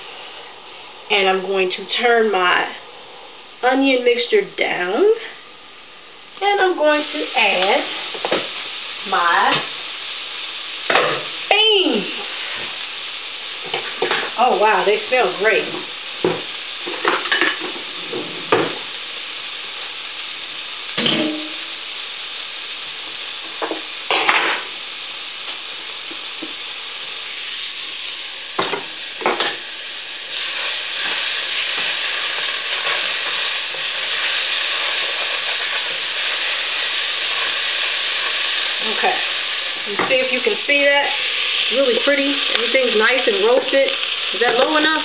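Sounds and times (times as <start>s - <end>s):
onions sizzling in a pot: 0.0s - 45.0s.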